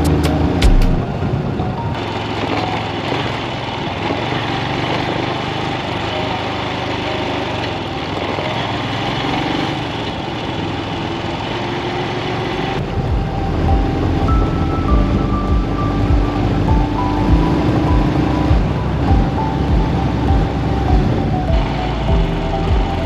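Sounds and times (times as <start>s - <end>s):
broad rushing noise: 0.0s - 23.0s
motorcycle engine running: 0.0s - 23.0s.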